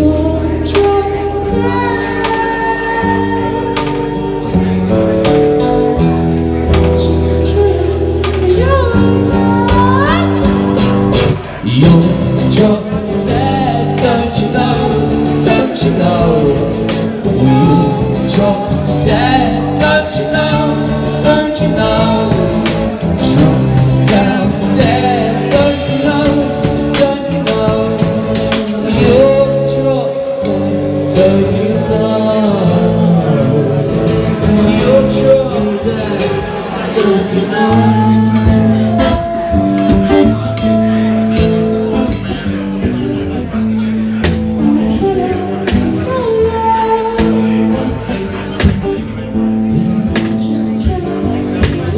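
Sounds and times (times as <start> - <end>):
drum kit: 0.0 - 51.9
person singing: 0.0 - 51.9
strummed acoustic guitar: 0.0 - 51.9.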